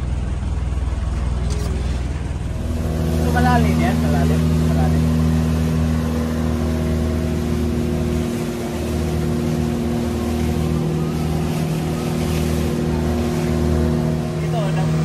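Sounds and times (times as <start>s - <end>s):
boat engine drone: 0.0s - 15.0s
water noise: 0.0s - 15.0s.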